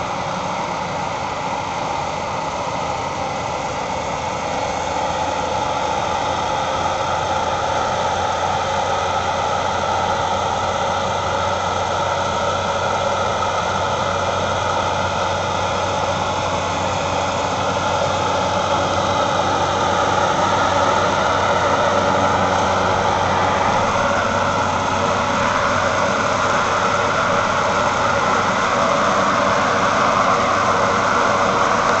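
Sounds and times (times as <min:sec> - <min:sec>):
aircraft turbine engine running: 0:00.0 - 0:32.0.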